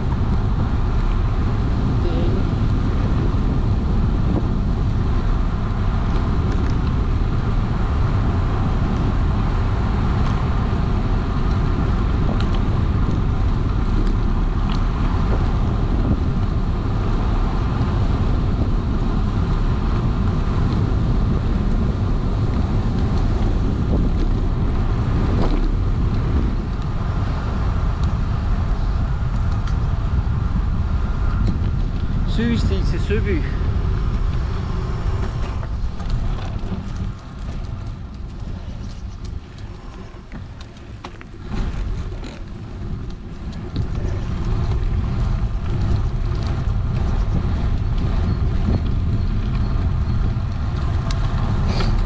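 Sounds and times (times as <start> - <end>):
bicycle rolling noise: 0.0 - 52.0
wind buffeting microphone: 0.0 - 52.0.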